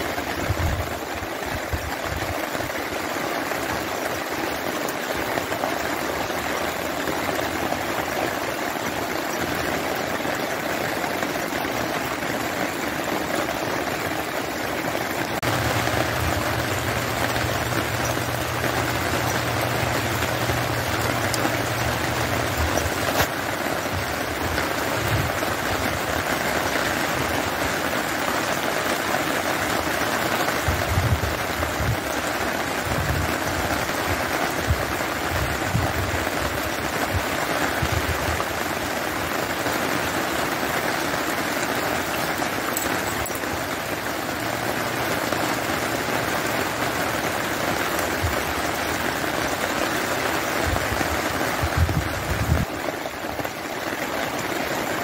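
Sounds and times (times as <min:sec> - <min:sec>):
rain on wet ground: 0:00.0 - 0:55.0.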